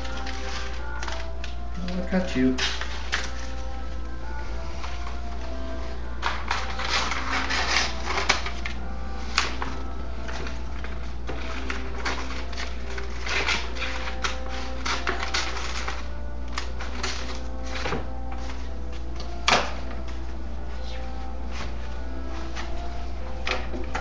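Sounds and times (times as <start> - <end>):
wrapping paper crinkling: 0.0 - 23.7
steady low hum: 0.0 - 24.0.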